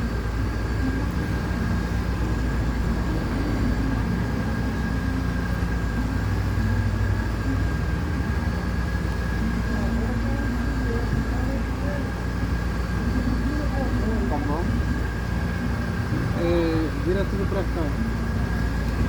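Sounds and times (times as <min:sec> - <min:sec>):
high constant whine: 0:00.0 - 0:19.0
workshop machine humming: 0:00.0 - 0:19.0.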